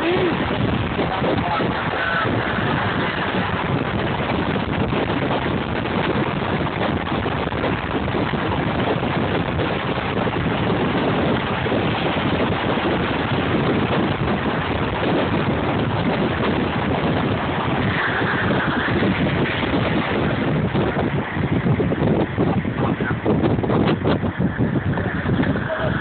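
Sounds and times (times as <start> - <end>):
car road and engine noise: 0.0 - 26.0
wind rushing on microphone: 0.0 - 26.0.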